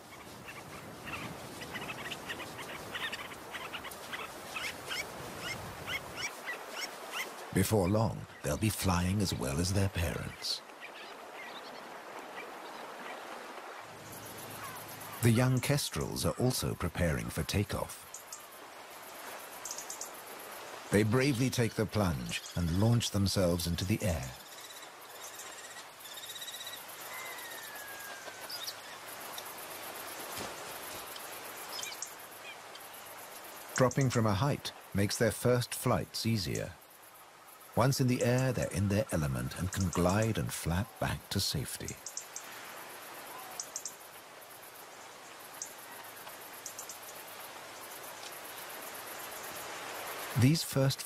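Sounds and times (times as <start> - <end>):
insects chirping: 0.0 - 51.0
steady hiss: 0.0 - 51.0.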